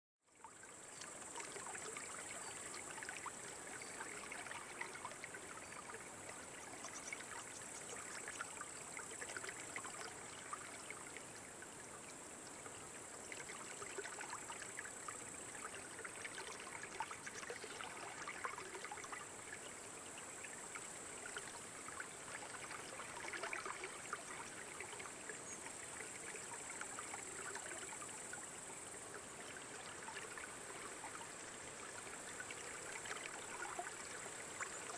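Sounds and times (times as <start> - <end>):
babbling stream: 0.3 - 34.9.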